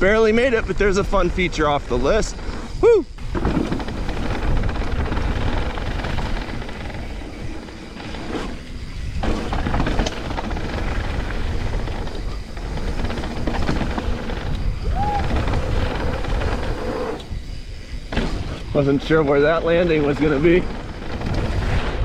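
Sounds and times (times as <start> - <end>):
bike knocking and rattling: 0.0 - 22.0
bike tyre noise: 0.0 - 22.0
wind rush: 0.0 - 22.0.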